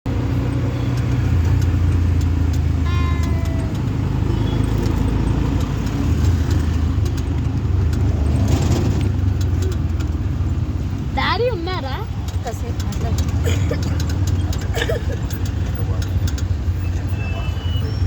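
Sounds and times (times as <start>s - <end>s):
rickshaw engine humming: 0.0s - 18.0s.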